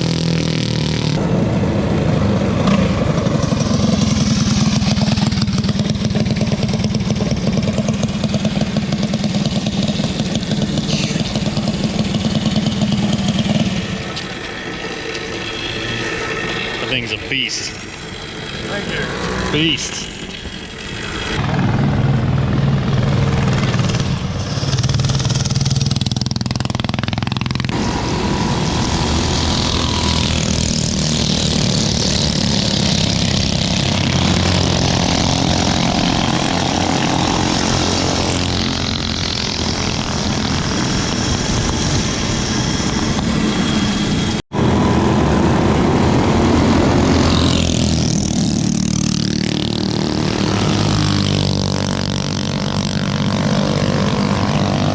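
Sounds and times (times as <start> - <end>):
mini bike engines revving: 0.0 - 54.9.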